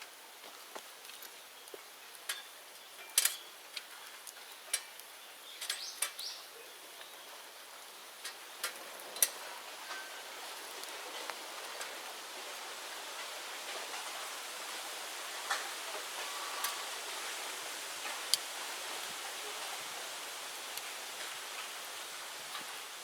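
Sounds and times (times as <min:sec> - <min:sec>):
bonfire crackling and popping: 0:00.0 - 0:23.0
fire hissing: 0:03.2 - 0:23.0.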